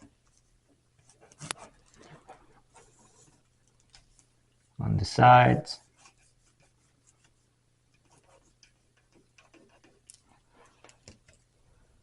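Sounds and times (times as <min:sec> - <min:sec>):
pencil tapping and scratching: 0:00.0 - 0:04.4, 0:05.8 - 0:11.5.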